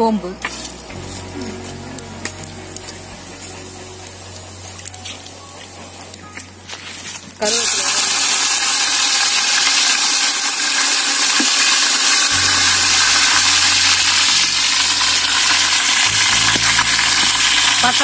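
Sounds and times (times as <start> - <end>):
seeds and leaves sizzling in oil: 0.4 - 18.0.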